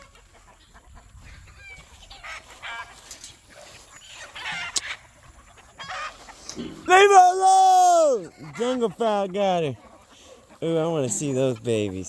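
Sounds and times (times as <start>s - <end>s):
chickens squawking and clucking: 0.0s - 12.0s.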